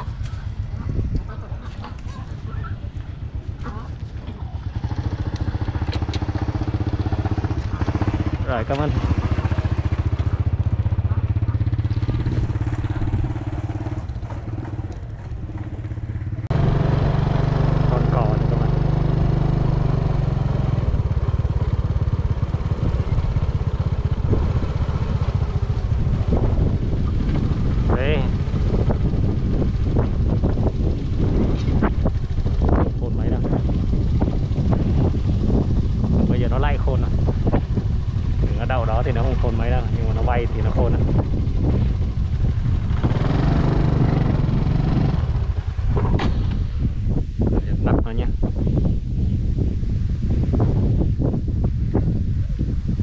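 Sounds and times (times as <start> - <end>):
motorbike engine running: 0.0 - 53.0.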